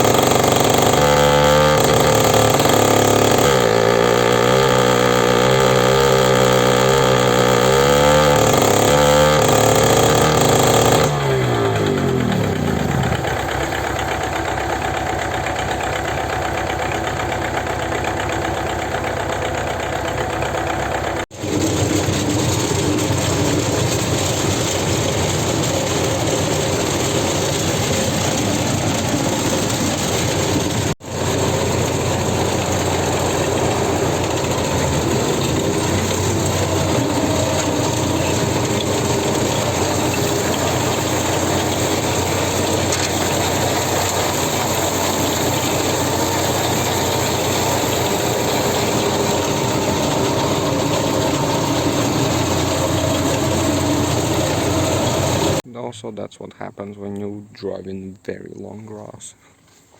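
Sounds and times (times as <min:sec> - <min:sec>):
rotary mower clattering: 0:00.0 - 0:55.7
tractor engine running: 0:00.0 - 0:55.7.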